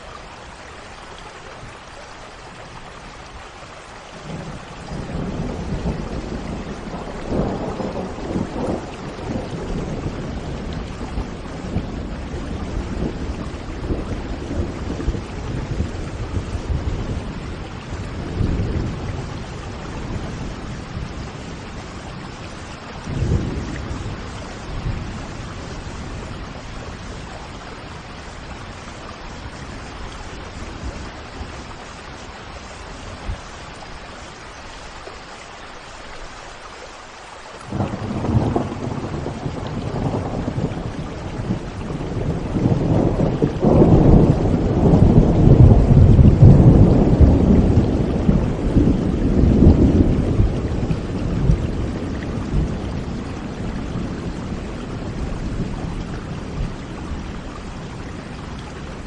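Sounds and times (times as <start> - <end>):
steady rain: 0.0 - 59.0
rolling thunder: 4.2 - 32.0, 37.7 - 59.0.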